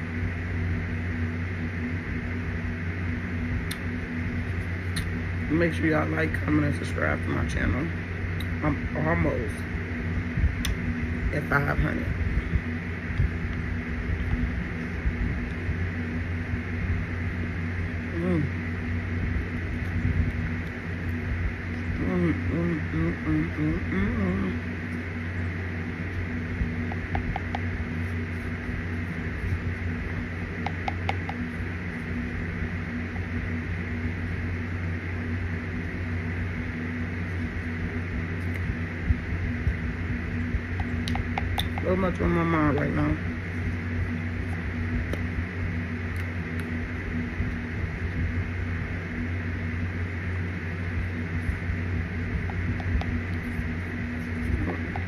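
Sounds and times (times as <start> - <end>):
low hum and hiss: 0.0 - 55.0.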